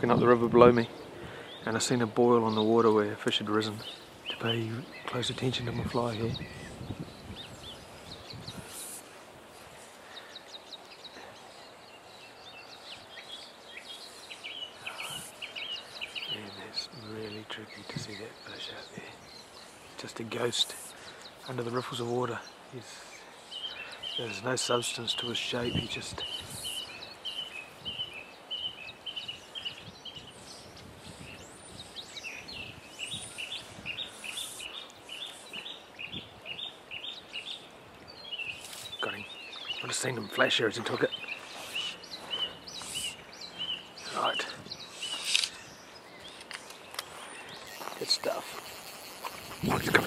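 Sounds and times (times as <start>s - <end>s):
songbirds chirping: 0.0s - 50.0s
steady background hiss: 0.0s - 50.0s.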